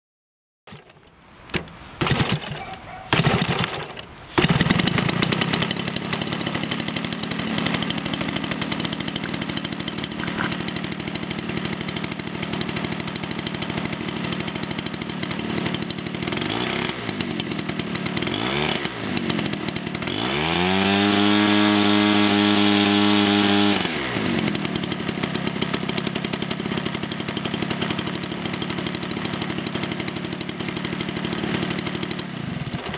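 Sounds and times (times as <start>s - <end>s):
model airplane engine revving: 3.2s - 32.9s.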